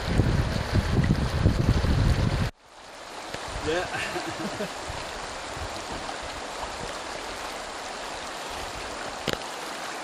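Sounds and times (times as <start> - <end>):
river running over rocks: 0.0 - 10.0.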